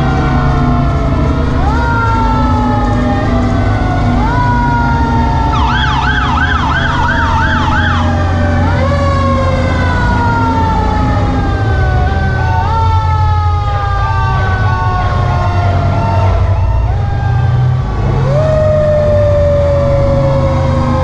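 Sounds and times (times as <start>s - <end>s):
fire truck sirens wailing: 0.0s - 21.0s
truck engine running low: 0.0s - 21.0s.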